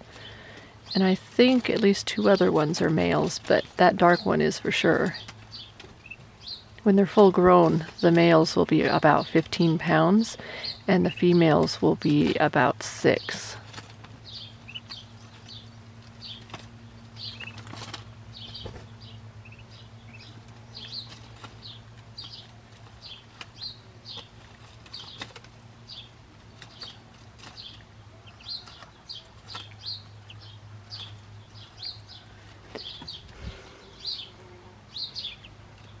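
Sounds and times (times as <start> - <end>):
ducklings peeping: 0.0 - 36.0.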